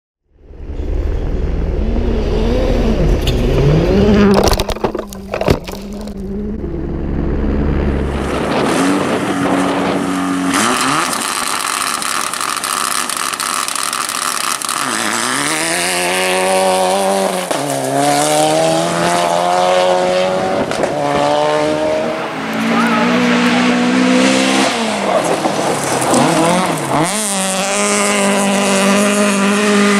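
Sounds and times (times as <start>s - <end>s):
tyre and road noise: 0.3s - 29.9s
rally car engines revving: 0.5s - 29.9s.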